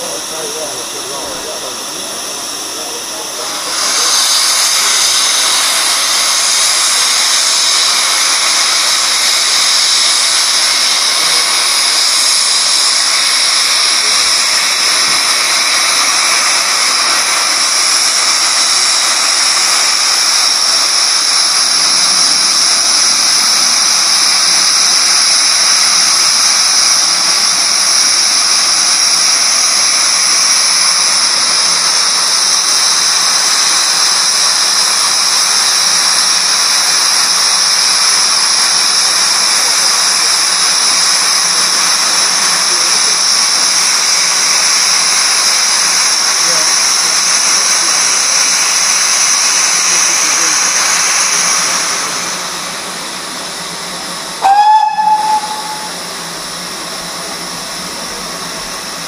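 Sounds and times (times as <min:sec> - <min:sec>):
steam locomotive hissing: 0:00.0 - 0:59.0.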